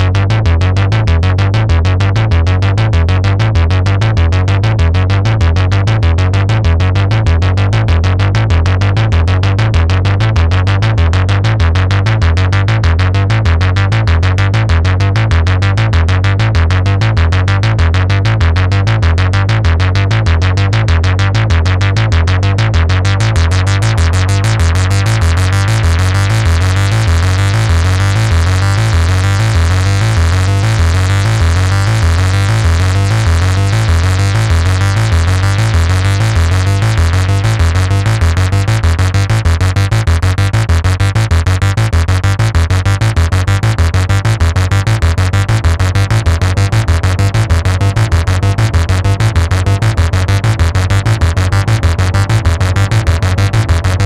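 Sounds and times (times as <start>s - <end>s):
synthesizer bass line: 0.0s - 54.0s.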